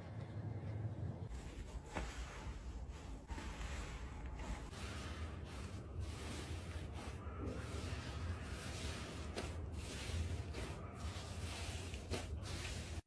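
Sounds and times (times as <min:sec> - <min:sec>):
slime squishing: 0:01.8 - 0:13.0.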